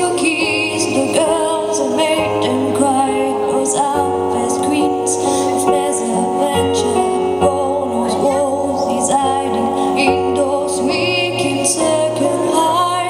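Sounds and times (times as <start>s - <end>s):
instrumental backing with chords: 0.0s - 13.0s
woman singing into a microphone: 0.0s - 13.0s.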